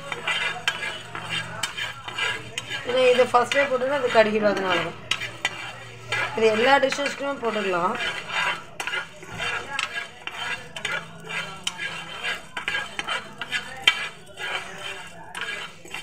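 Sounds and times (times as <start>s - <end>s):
metal spoon scraping pan: 0.0s - 16.0s.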